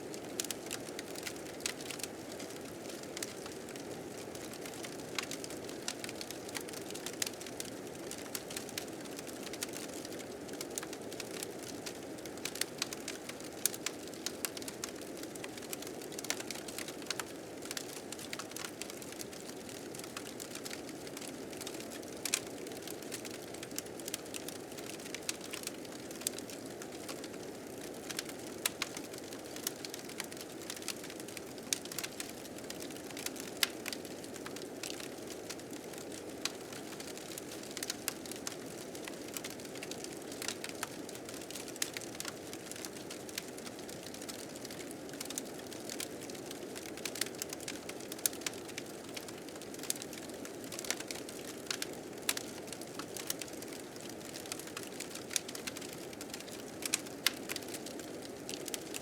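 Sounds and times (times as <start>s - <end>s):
wood fire crackling: 0.2s - 59.0s.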